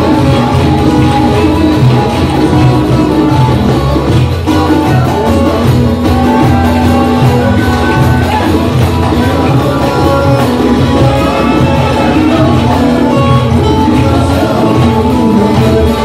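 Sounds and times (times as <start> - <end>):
loud music with steady beat: 0.0 - 16.0.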